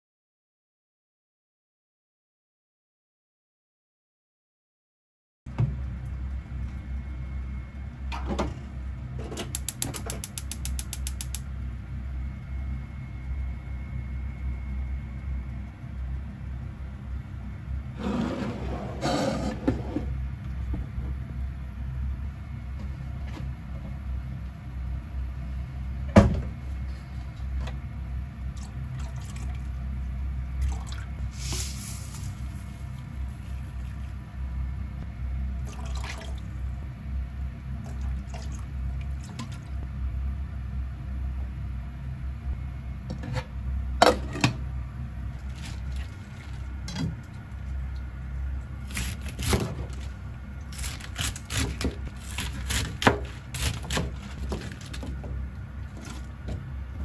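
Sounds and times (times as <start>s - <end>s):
steady low hum: 5.5s - 57.0s.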